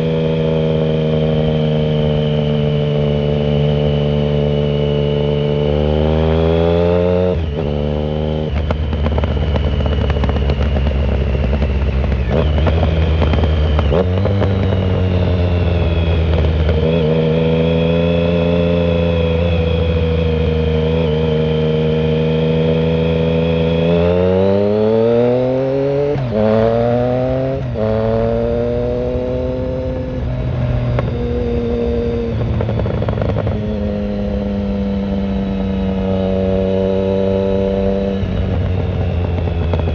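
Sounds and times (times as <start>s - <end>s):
muffled motorcycle engine revving: 0.0s - 39.9s.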